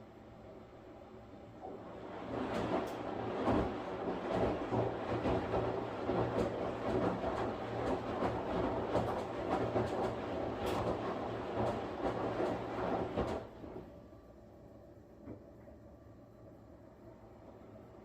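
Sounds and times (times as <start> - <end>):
washing machine churning: 0.0 - 15.8.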